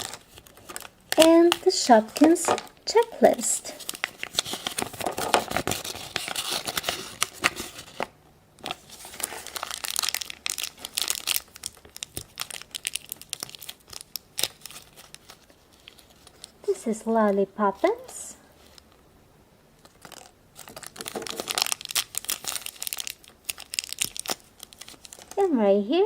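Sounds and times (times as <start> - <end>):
plastic wrapper crinkling and tearing: 0.0 - 19.1, 19.8 - 25.4.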